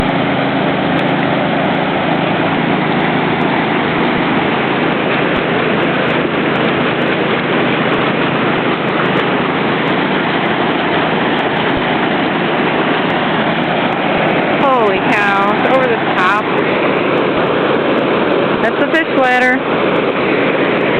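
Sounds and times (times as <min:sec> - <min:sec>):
roar of churning water: 0:00.0 - 0:20.9.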